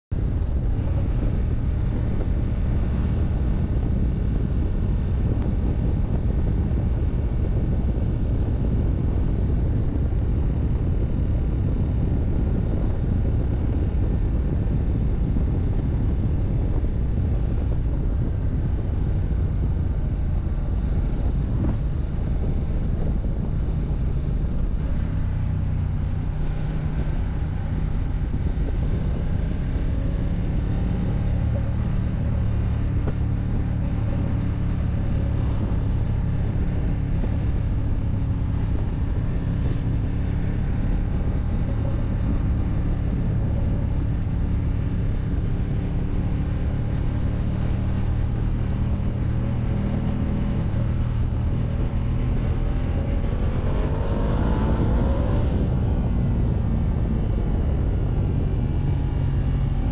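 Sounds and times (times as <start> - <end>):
wind noise on microphone: 0.0 - 59.9
motorcycle engine running: 0.1 - 59.9.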